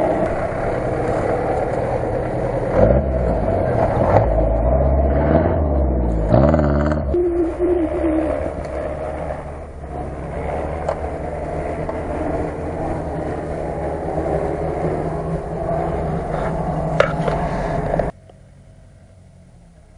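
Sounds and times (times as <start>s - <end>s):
vehicle engine under load: 0.0s - 19.9s.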